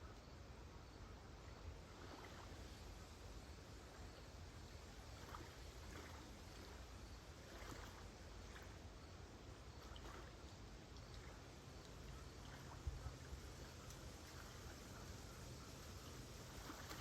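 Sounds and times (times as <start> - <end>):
gentle waves lapping: 0.0 - 17.0.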